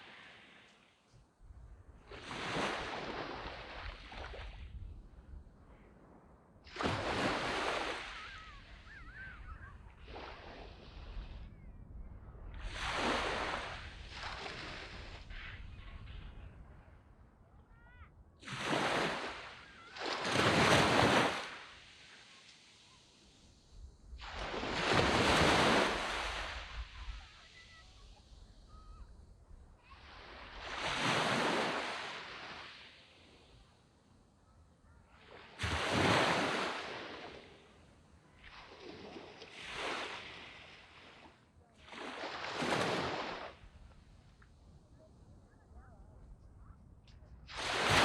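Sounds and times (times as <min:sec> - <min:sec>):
waves washing up a sand beach: 0:00.0 - 0:01.1, 0:01.9 - 0:05.2, 0:06.6 - 0:17.1, 0:17.8 - 0:45.8, 0:47.4 - 0:48.0.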